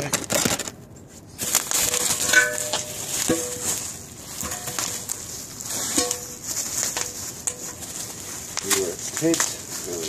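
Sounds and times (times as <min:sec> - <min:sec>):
bubble wrap crinkling: 0:01.3 - 0:10.0.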